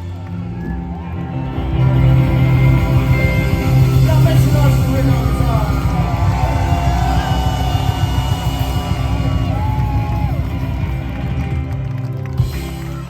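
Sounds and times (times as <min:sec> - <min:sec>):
heavy bass: 0:00.0 - 0:13.0
live rock band playing: 0:00.0 - 0:13.0.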